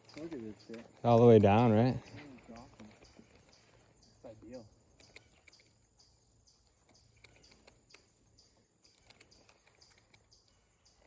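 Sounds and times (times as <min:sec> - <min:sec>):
faint insects chirping: 0:00.0 - 0:11.0.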